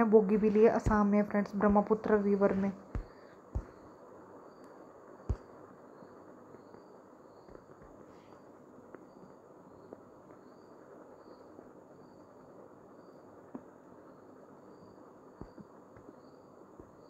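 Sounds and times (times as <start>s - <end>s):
background hiss: 0.0s - 17.0s
cricket chirping: 1.6s - 17.0s.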